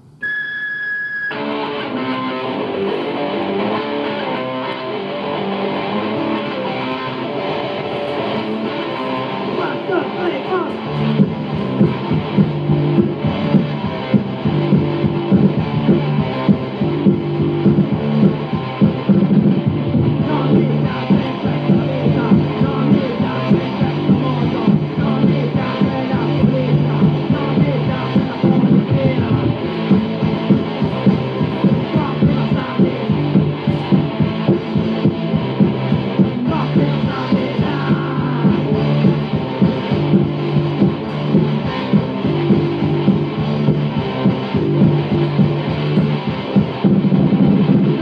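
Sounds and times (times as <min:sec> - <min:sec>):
punk rock band playing: 0:00.0 - 0:48.0
strummed electric guitar chords: 0:00.0 - 0:48.0.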